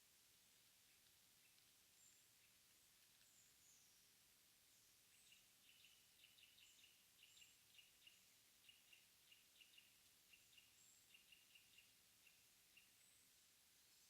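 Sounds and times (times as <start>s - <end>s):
soft hiss: 0.0s - 14.0s
small birds chirping: 0.6s - 14.0s.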